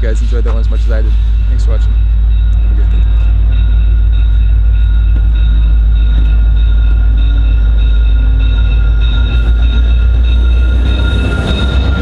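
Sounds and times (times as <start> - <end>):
train rumbling: 0.0 - 12.0
high-pitched tones: 1.1 - 12.0.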